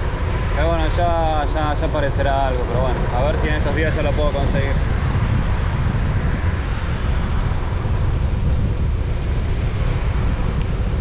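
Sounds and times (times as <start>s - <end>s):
tyre and road noise: 0.0s - 11.0s
wind buffeting microphone: 0.0s - 11.0s.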